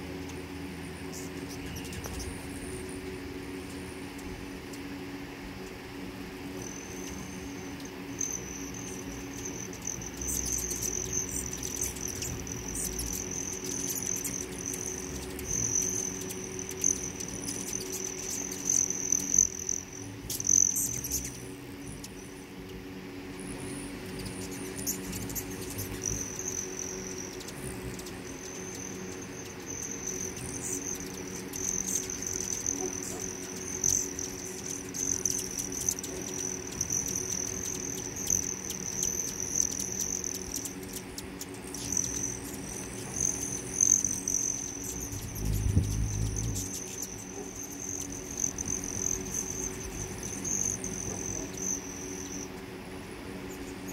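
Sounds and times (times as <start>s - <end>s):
high-pitched insect-like trill: 0.0s - 4.3s, 6.4s - 52.6s, 53.4s - 53.9s
hummingbird wings whirring: 0.0s - 53.9s.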